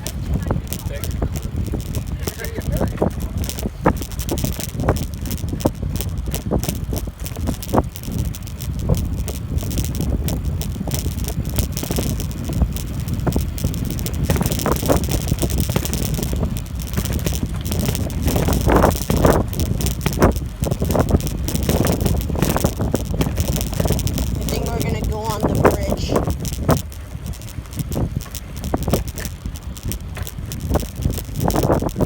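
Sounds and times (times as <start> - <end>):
bicycle rattling and clicking: 0.0 - 32.0
wind rumbling on microphone: 0.0 - 32.0.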